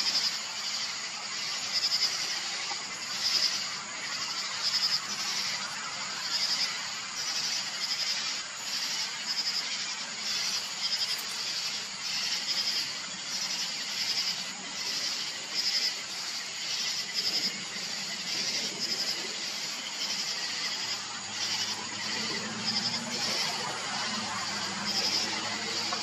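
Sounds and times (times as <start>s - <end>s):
insects chirping: 0.0s - 26.0s
steady hiss: 0.0s - 26.0s.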